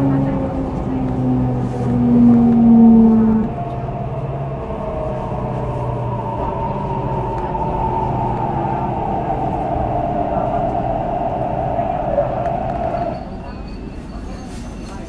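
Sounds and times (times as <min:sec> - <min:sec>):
train motors whining: 0:00.0 - 0:13.6
strong low drone: 0:00.0 - 0:13.9
train running rumble: 0:00.0 - 0:15.0.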